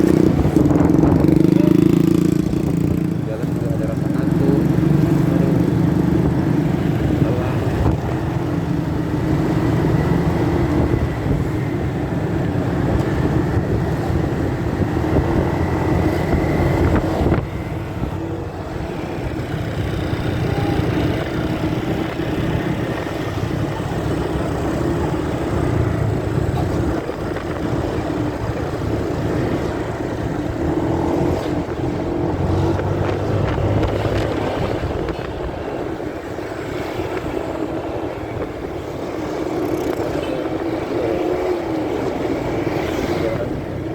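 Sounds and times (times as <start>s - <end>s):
wind noise: 0.0s - 3.0s, 5.8s - 24.6s, 25.5s - 40.8s
muffled motorcycle engine: 0.0s - 43.9s
road rumble: 0.0s - 43.9s.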